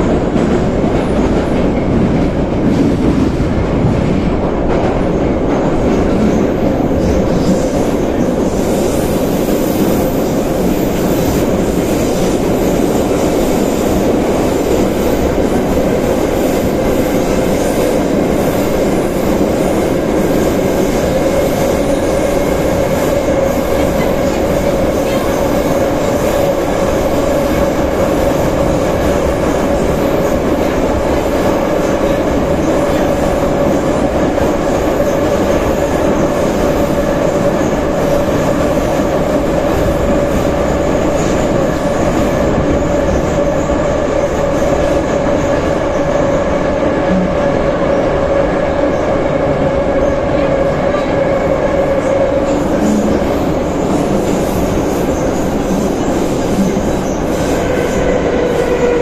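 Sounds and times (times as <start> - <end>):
metro train running in tunnel: 0.0 - 59.0.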